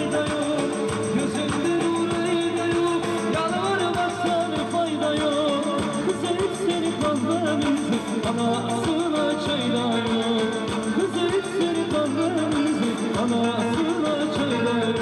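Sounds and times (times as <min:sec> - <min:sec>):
song with singing guitar and drums: 0:00.0 - 0:15.0.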